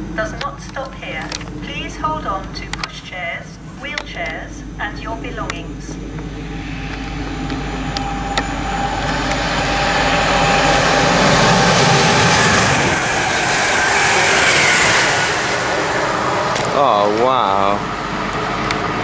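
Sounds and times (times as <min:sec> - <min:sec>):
train motors humming: 0:00.0 - 0:19.0
train wheels rumbling on rails: 0:00.0 - 0:19.0.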